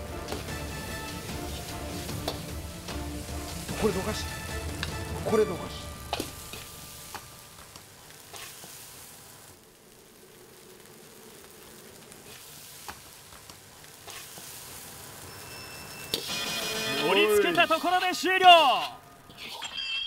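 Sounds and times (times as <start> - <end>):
rice sizzling in a wok: 0.0 - 19.6.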